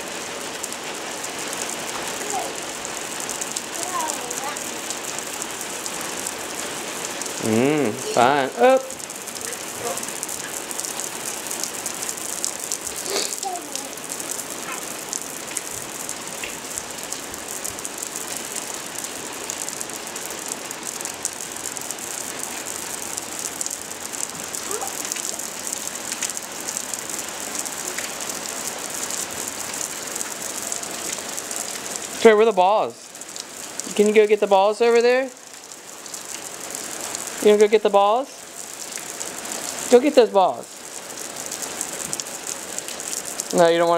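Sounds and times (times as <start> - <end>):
rain falling on deck and lawn: 0.0 - 43.9.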